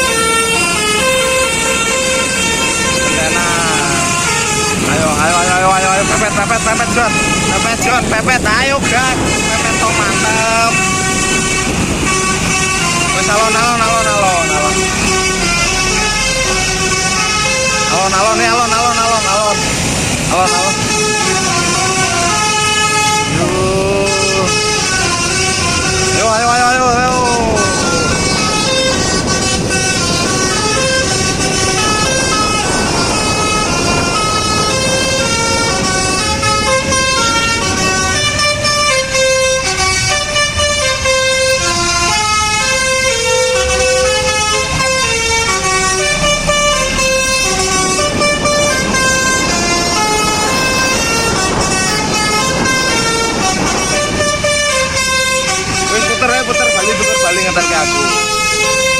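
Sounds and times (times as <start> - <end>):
bus engine and road noise: 0.0 - 58.9
multi-tone air horn melody: 0.0 - 58.9.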